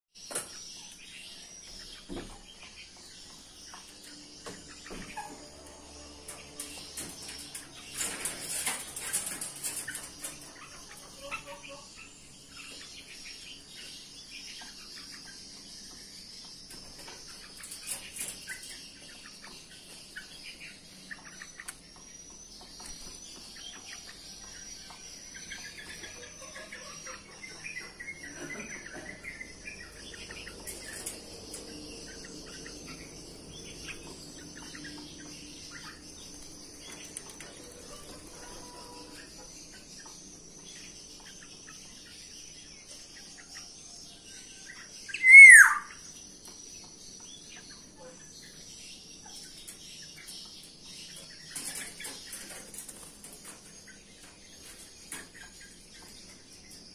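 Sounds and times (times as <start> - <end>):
birds chirping: 0.2 - 56.9
birds warbling: 0.3 - 43.4, 44.5 - 56.9.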